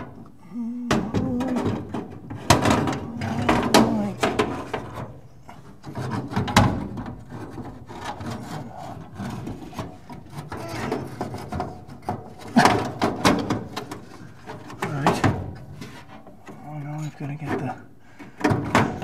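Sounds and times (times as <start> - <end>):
parts rubbing and scraping: 0.0 - 19.0.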